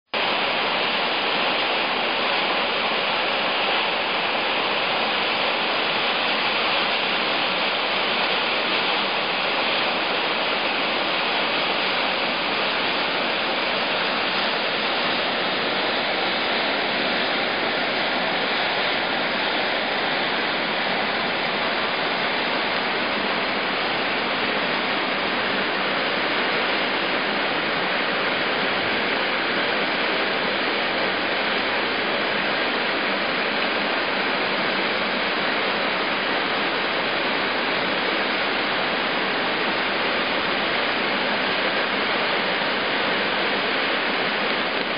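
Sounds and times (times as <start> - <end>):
river water rushing: 0.2 - 44.9.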